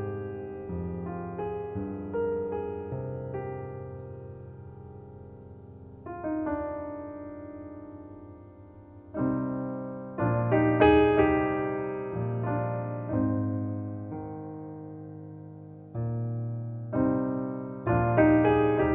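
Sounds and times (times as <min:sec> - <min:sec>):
slow solo piano piece: 0:00.0 - 0:18.9.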